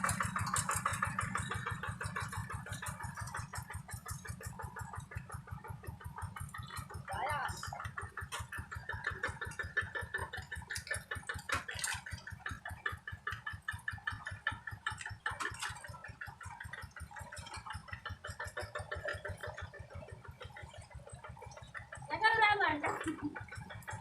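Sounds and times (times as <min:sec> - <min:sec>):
diesel tractor engine chugging: 0:00.0 - 0:24.0.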